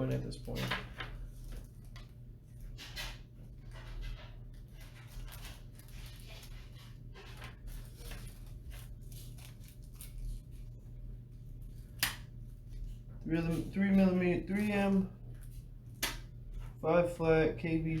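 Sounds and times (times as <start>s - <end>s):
low electrical hum: 0.0s - 18.0s
rustling of small bags: 0.4s - 10.9s, 11.6s - 16.6s.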